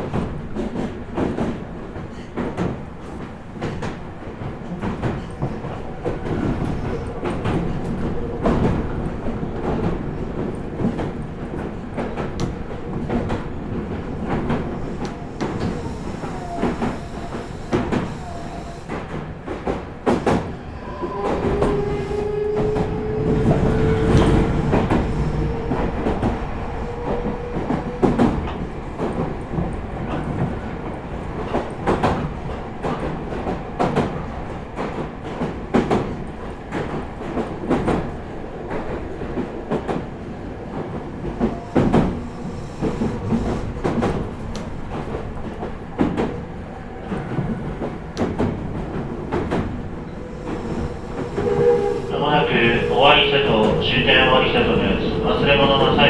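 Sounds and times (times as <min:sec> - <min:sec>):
train rumble inside car: 0:00.0 - 0:56.0.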